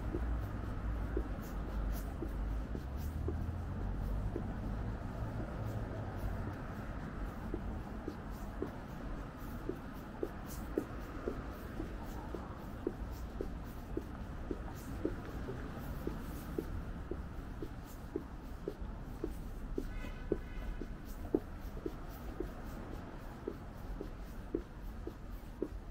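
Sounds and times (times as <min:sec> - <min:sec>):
footsteps walking: 0:00.0 - 0:25.9.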